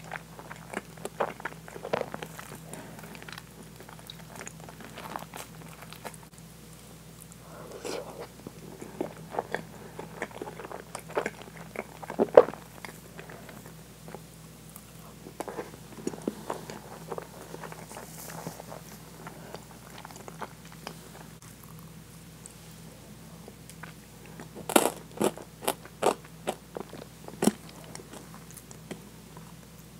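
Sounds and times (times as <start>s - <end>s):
wet chewing: 0.0s - 6.4s, 7.2s - 21.9s, 23.7s - 29.6s
faint low hum: 0.0s - 29.9s.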